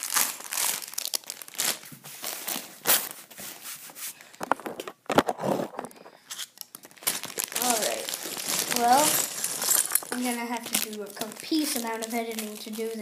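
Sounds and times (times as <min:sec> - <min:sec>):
plastic bag crinkling: 0:00.0 - 0:03.3, 0:04.4 - 0:13.0.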